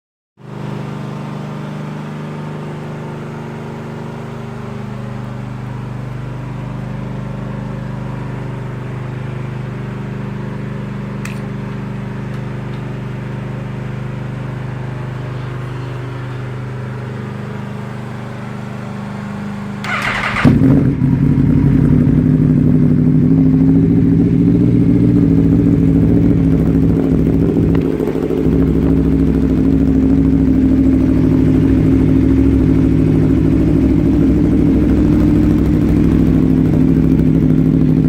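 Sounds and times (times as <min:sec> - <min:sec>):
motorcycle engine idling: 0:00.5 - 0:38.0.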